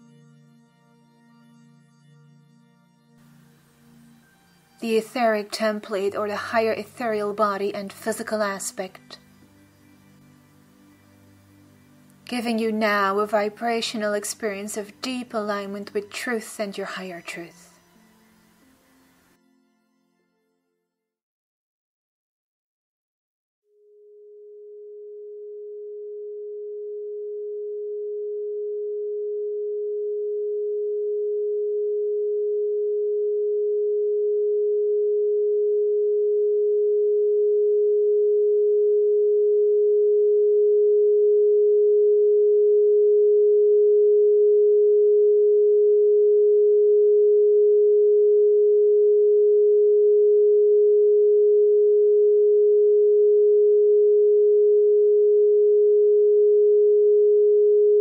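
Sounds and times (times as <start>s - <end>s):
steady sine tone: 0.0s - 19.4s, 23.8s - 58.0s.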